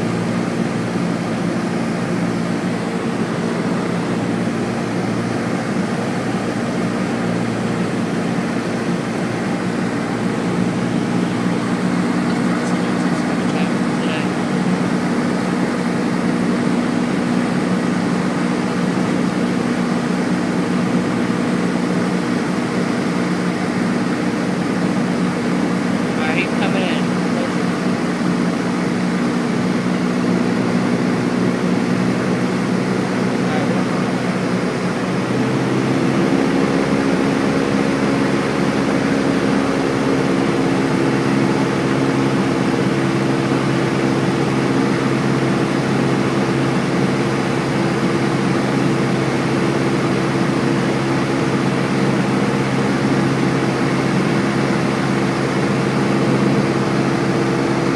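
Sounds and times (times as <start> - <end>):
propeller plane engine drone: 0.0 - 57.9.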